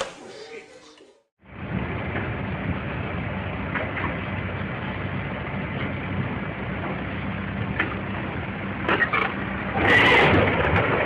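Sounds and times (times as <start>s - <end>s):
large engine humming: 1.4s - 11.0s.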